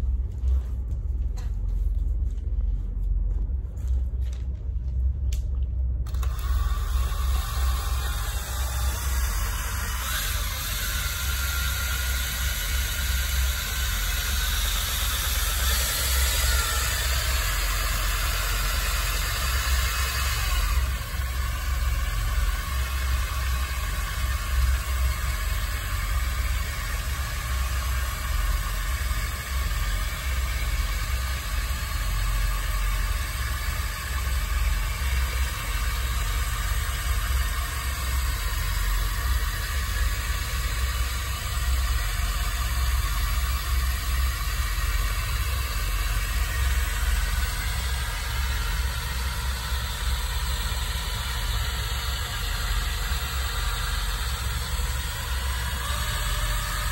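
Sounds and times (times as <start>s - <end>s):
power drill mixing thick coating: 6.1s - 56.9s.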